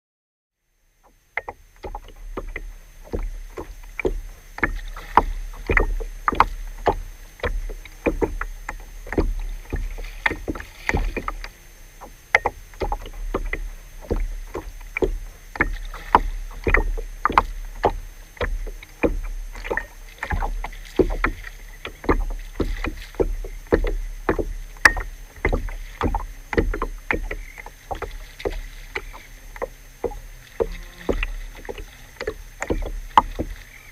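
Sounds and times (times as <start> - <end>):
water slapping against boat: 0.9 - 33.9.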